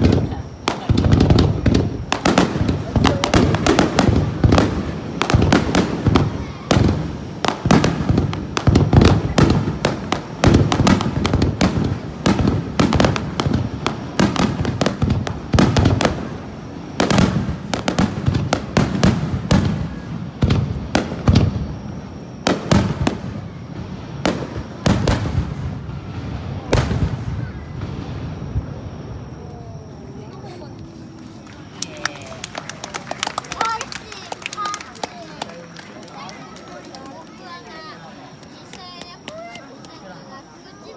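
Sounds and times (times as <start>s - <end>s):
fireworks sharp bangs: 0.0s - 40.6s.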